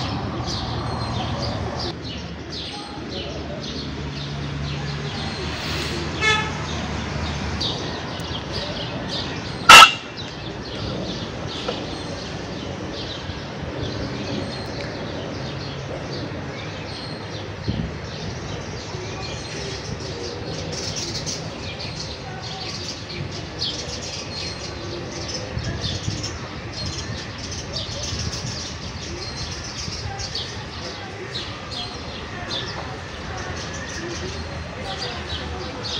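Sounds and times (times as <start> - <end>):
sparrows chirping: 0.0 - 35.9.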